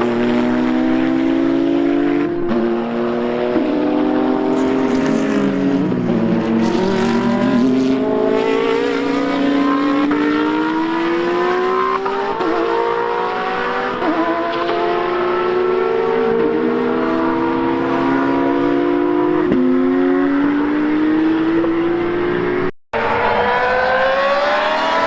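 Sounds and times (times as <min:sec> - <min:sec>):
racing car engine revving: 0:00.0 - 0:25.0.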